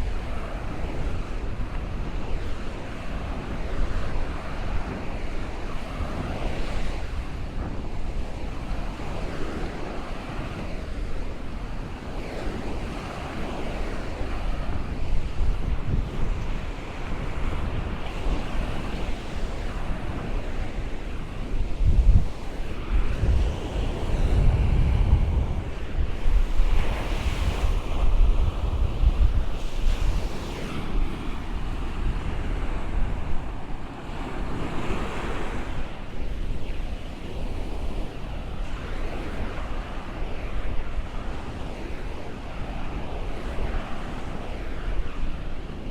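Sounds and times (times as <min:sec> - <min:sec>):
waves breaking on beach: 0:00.0 - 0:45.9
wind buffeting microphone: 0:00.0 - 0:45.9.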